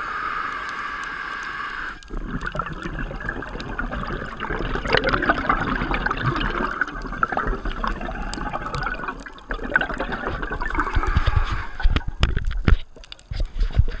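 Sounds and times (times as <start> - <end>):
underwater bubbles gurgling: 0.0 - 14.0.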